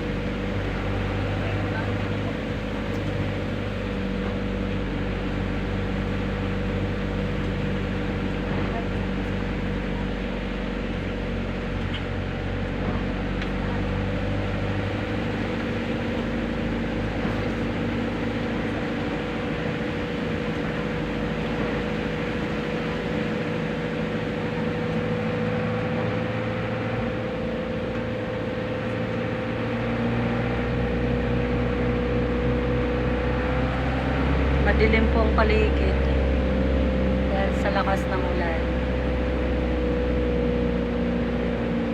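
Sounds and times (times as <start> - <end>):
faint rising whine: 0.0 - 41.9
road and engine noise in car: 0.0 - 41.9.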